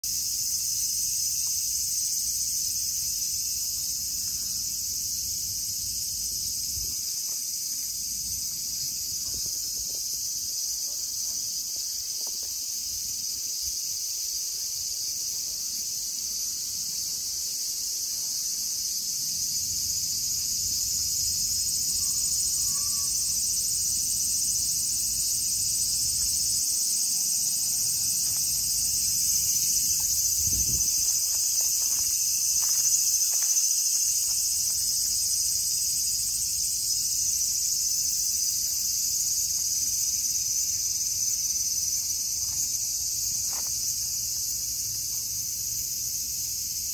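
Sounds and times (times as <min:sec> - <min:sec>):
insect chorus shrilling: 0:00.0 - 0:46.9.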